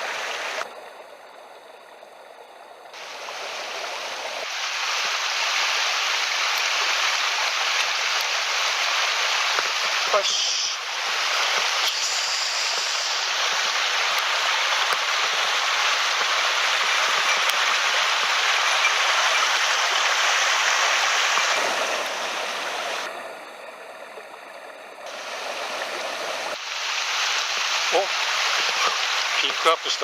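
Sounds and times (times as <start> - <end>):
stream rushing over rocks: 0.0 - 0.8, 2.9 - 23.6, 24.6 - 30.0.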